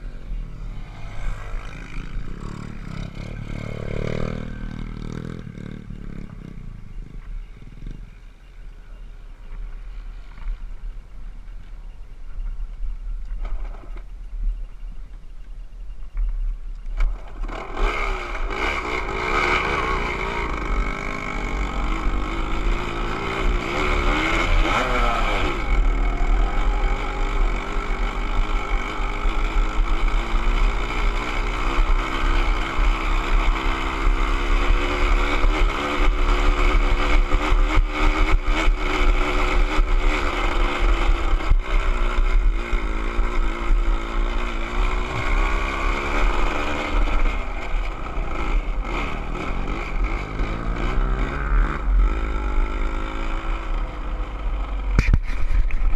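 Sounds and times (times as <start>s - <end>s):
motorcycle engine revving: 0.0s - 8.5s, 17.0s - 55.9s.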